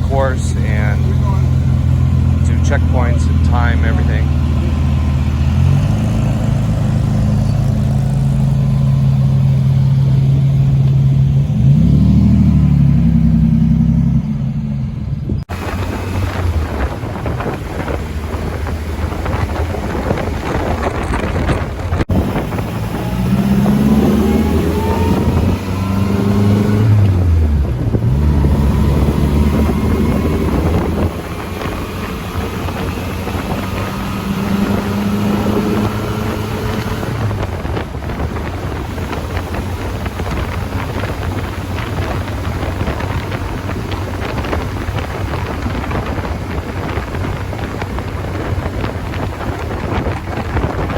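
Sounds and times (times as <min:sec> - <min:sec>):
car engine accelerating: 0:00.0 - 0:50.9
wind buffeting microphone: 0:00.0 - 0:50.9.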